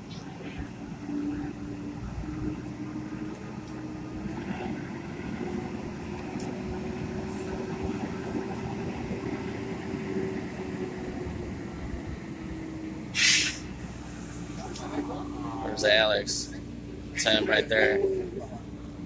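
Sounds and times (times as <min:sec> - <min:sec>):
engine-like hum: 0:00.0 - 0:19.0.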